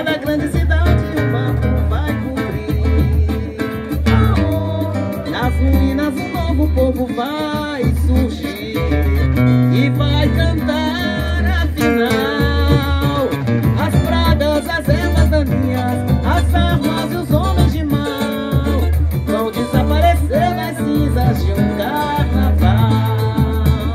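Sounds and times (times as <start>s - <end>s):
woman singing into microphone: 0.0s - 9.1s, 9.7s - 23.9s
guitar: 0.0s - 23.9s
low drum beat: 0.0s - 23.9s.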